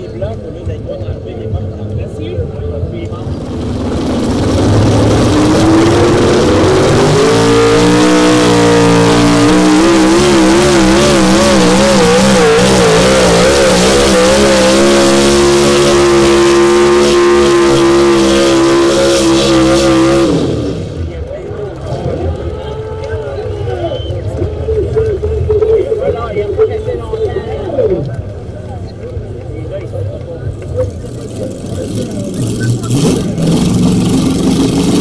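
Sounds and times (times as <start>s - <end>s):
pickup truck engine at full throttle: 0.0s - 26.6s, 28.0s - 35.0s.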